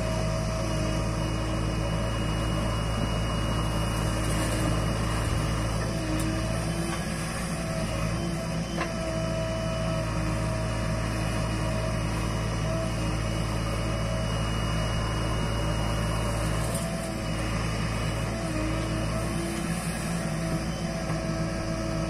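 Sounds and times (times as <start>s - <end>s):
diesel engine under hydraulic load: 0.0s - 22.0s.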